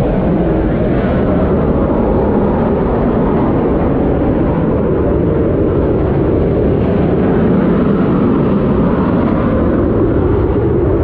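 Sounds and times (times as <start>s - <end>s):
aircraft engine roar: 0.0s - 11.0s.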